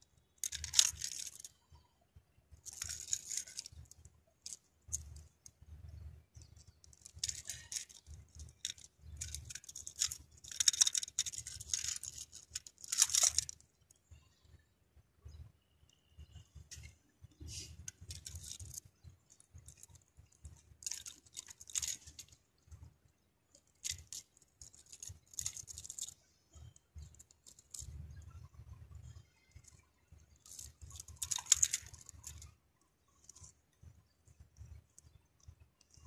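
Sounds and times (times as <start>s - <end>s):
rustling and crackling with clicks: 0.0s - 14.6s, 15.2s - 36.0s.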